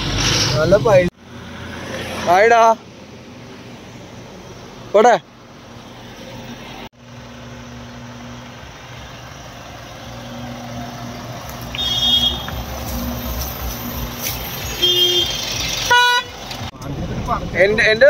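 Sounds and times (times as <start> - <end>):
diesel truck engine humming: 2.8 - 18.0.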